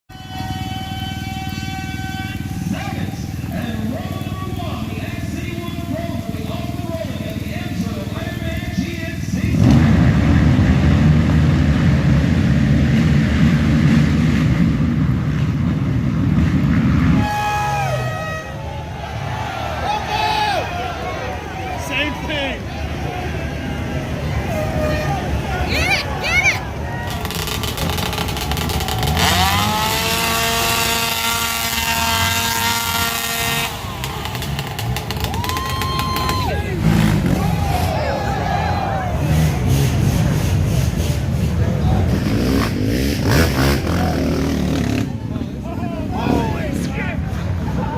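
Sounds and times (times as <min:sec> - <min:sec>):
atv engines running hard: 0:00.1 - 0:47.9.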